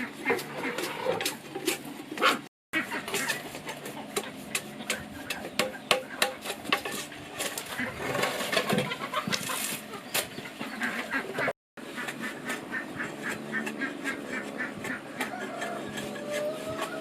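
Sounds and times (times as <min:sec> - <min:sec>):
ducks quacking: 0:02.2 - 0:06.4, 0:07.4 - 0:17.0.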